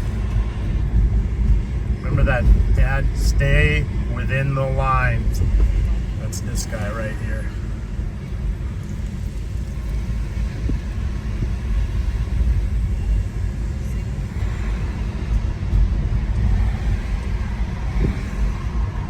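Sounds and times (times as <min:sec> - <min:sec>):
car engine rumble from inside: 0:00.0 - 0:19.0.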